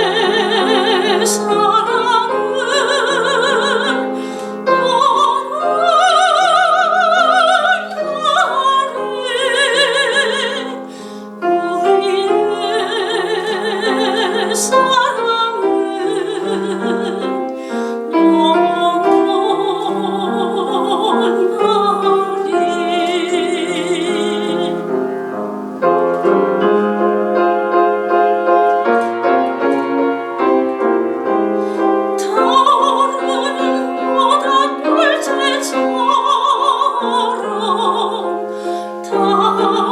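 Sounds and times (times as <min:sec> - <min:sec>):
piano accompaniment: 0:00.0 - 0:39.9
soprano singing with vibrato: 0:00.0 - 0:39.9.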